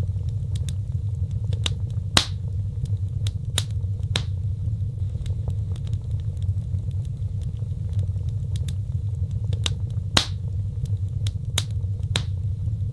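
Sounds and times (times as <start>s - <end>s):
fire crackling and popping: 0.0s - 12.9s.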